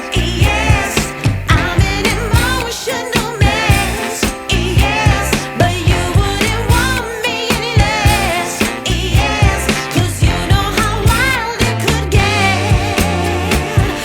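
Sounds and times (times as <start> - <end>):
person singing: 0.0 - 14.0
pop music with steady beat: 0.0 - 14.0.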